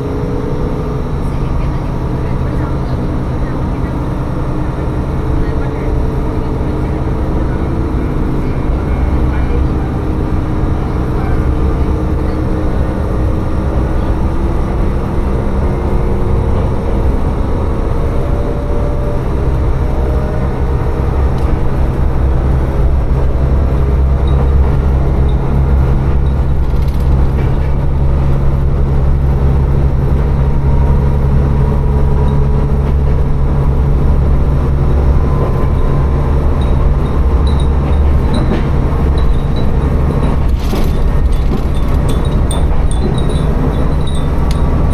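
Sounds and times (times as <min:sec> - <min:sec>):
diesel railcar engine drone: 0:00.0 - 0:44.9
wheels rumbling on rails: 0:00.0 - 0:44.9.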